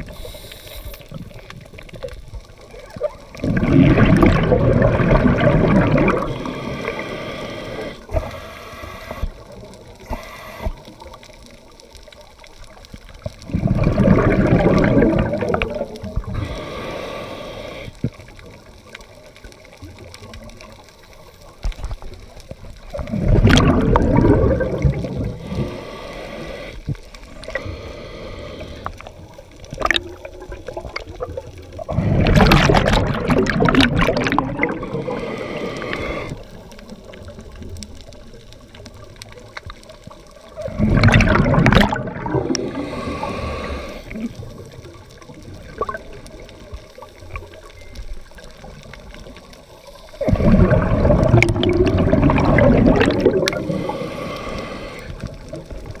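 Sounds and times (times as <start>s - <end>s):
underwater breath bubbles gurgling: 0.0s - 56.0s
underwater noise: 0.0s - 56.0s.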